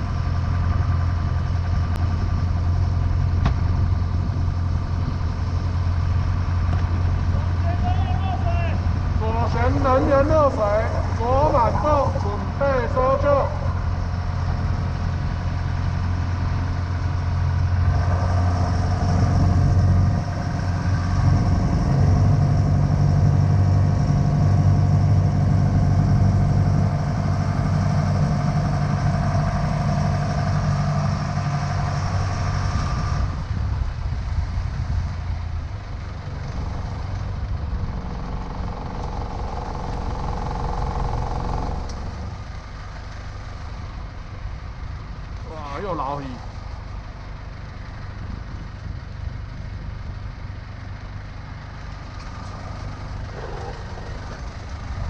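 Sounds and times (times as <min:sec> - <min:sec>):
powerboat engine humming: 0:00.0 - 0:55.0.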